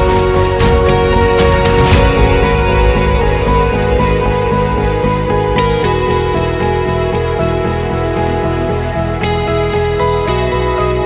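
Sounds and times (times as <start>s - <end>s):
background music with pulsing bass: 0.0s - 11.0s.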